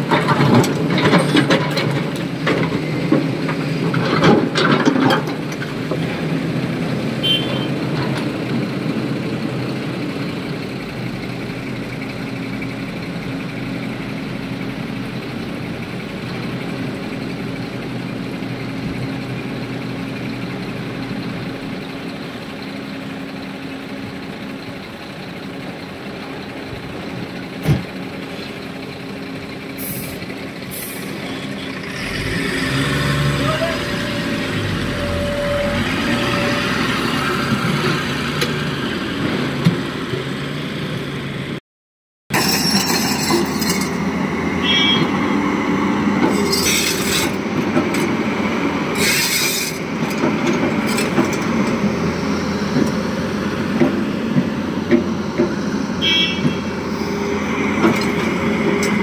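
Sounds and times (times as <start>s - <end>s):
heavy diesel engine running: 0.0s - 41.6s, 42.8s - 59.0s.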